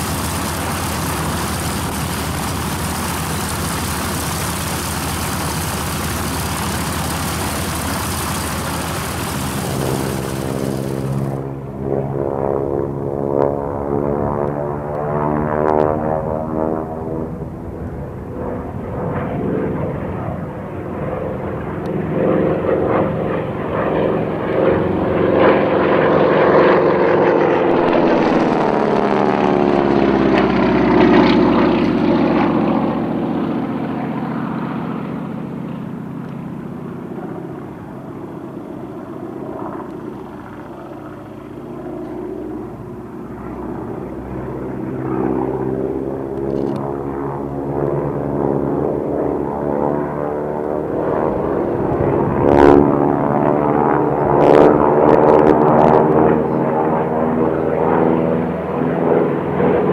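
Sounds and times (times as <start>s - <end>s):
propeller aircraft engine drone: 0.0s - 59.9s.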